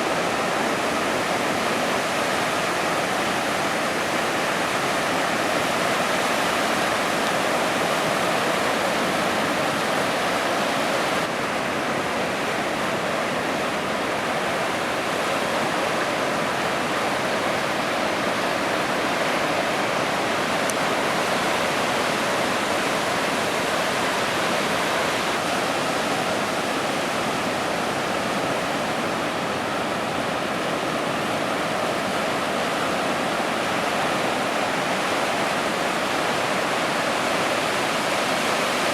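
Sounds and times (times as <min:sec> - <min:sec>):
ocean surf roar: 0:00.0 - 0:38.9.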